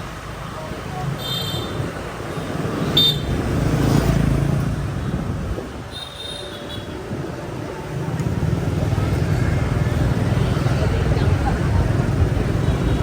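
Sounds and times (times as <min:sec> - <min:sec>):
motorbike engine and road rumble: 0:00.0 - 0:13.0.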